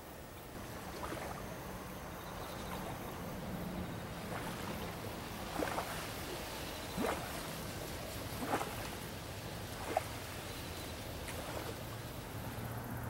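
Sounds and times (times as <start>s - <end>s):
small waves lapping on shore: 0.0s - 12.9s.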